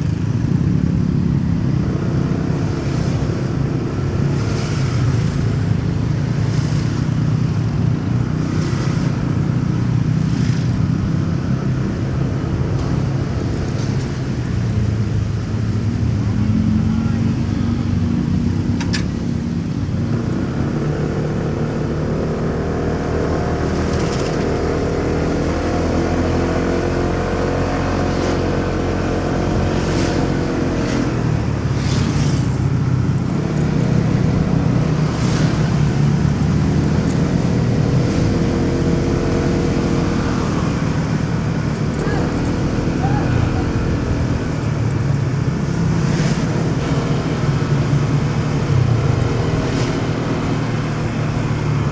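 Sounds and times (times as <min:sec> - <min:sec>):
road rumble: 0:00.0 - 0:51.9
motorcycle engine revving: 0:01.7 - 0:51.9.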